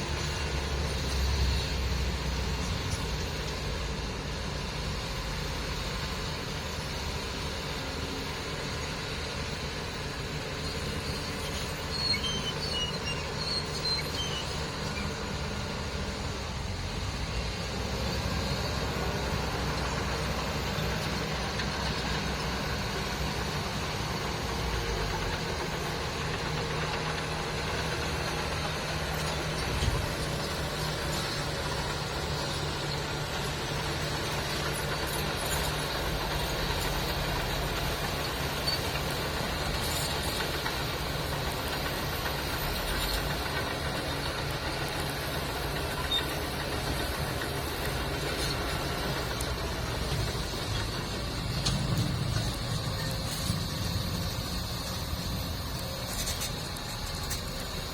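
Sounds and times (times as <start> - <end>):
heavy truck engine running: 0.0 - 57.9.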